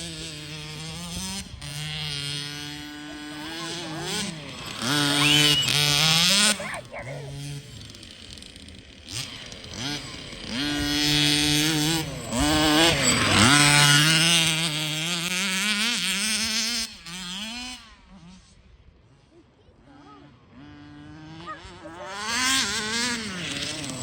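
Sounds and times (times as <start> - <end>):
small two-stroke engine revving: 0.0 - 24.0.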